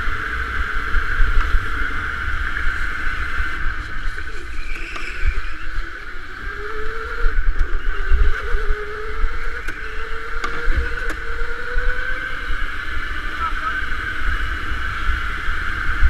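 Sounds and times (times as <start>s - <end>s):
electric kart motor whine: 0.0s - 16.0s
wind rumble on microphone: 0.0s - 16.0s.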